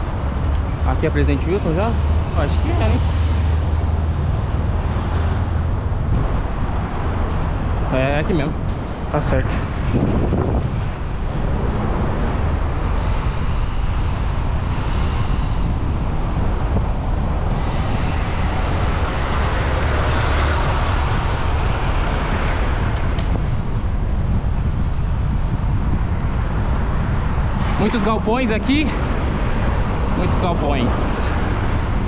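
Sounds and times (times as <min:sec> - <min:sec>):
road traffic: 0:00.0 - 0:32.0
vehicle passing: 0:00.0 - 0:32.0
wind buffeting microphone: 0:00.0 - 0:32.0.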